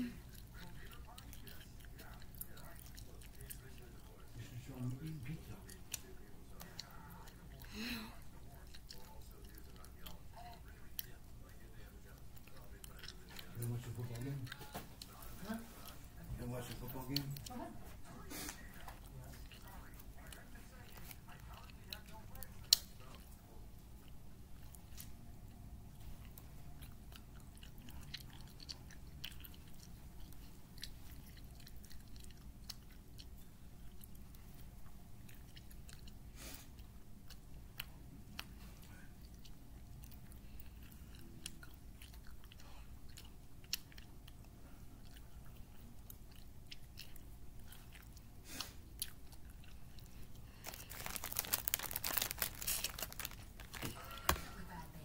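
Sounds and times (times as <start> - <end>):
person chewing candy: 0.0 - 54.6
low steady hum: 0.0 - 55.0.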